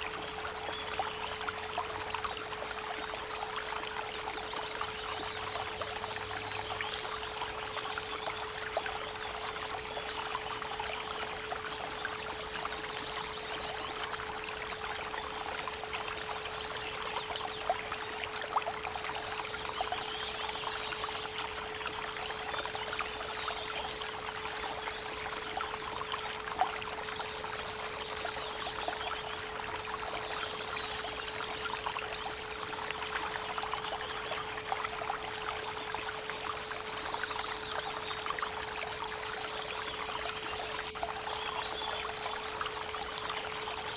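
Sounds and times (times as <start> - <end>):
birds singing: 0.0 - 43.9
creek water trickling: 0.0 - 43.9.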